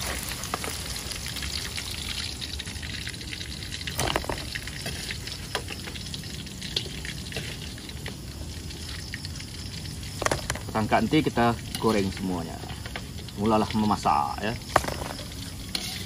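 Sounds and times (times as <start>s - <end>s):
meat sizzling in hot oil: 0.0s - 16.0s
oil popping and crackling: 0.0s - 16.0s.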